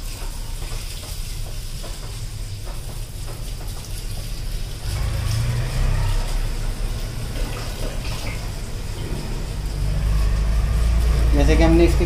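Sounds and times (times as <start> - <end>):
hose spraying on metal fins: 0.0 - 12.0.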